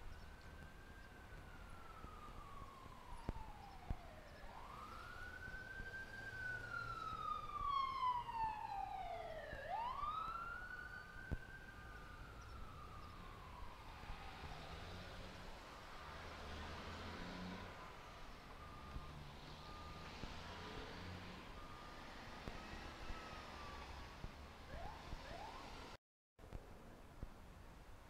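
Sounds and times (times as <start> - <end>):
emergency vehicle siren wailing: 0.0 - 26.0.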